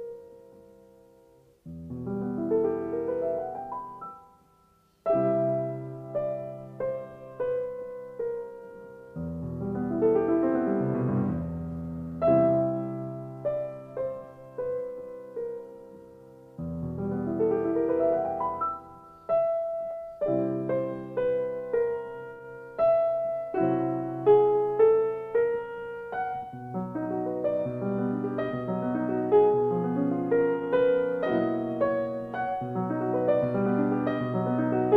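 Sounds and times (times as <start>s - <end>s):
slow solo piano music: 0.0s - 34.9s.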